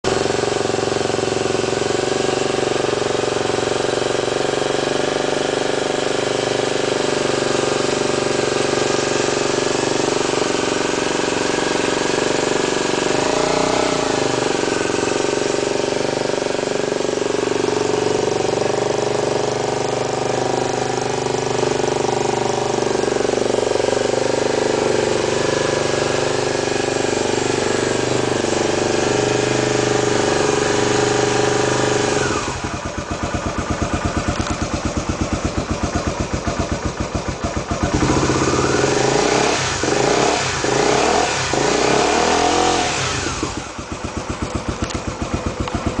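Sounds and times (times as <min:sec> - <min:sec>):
motorcycle engine revving and idling: 0:00.0 - 0:46.0.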